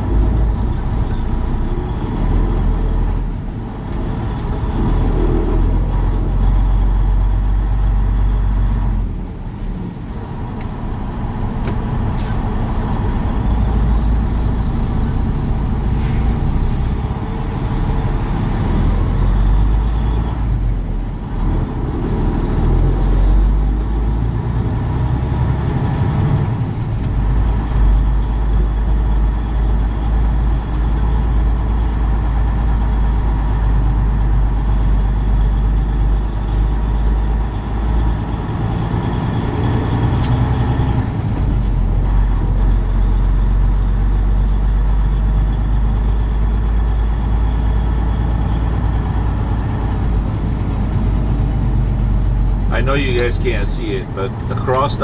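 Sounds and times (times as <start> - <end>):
truck diesel engine rumble: 0.0 - 55.0.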